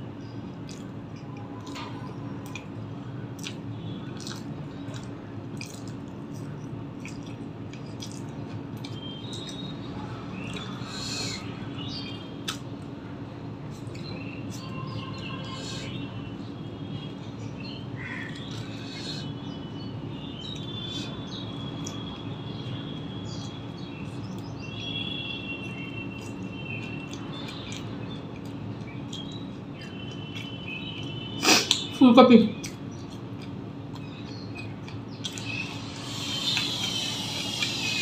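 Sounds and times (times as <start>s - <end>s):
small birds chirping: 0.0s - 38.0s
steady low hum: 0.0s - 38.0s
chewing food: 0.4s - 13.0s, 13.6s - 32.0s, 32.6s - 38.0s.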